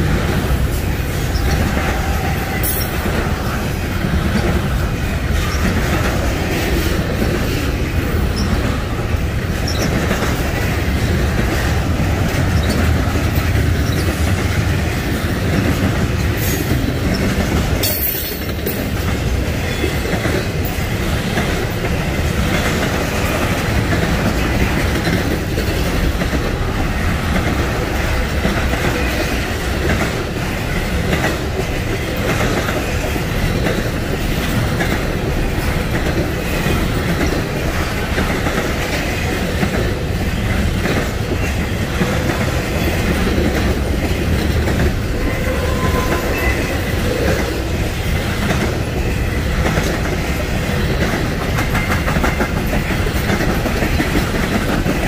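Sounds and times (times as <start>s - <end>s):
freight train cars rumbling: 0.0s - 55.0s
wheels clacking over rail joints: 0.0s - 55.0s.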